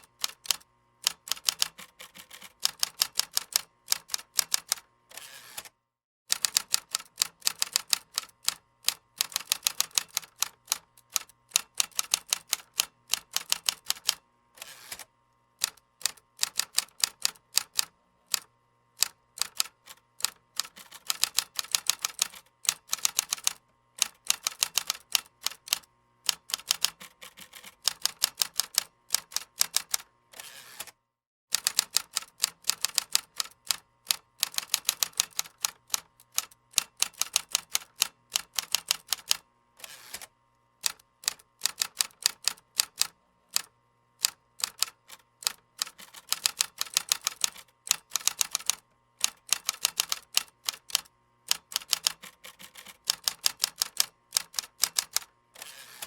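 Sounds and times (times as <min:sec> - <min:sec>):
keyboard typing: 0:00.1 - 0:04.8, 0:06.3 - 0:14.2, 0:15.6 - 0:30.0, 0:31.5 - 0:39.4, 0:40.8 - 0:55.3.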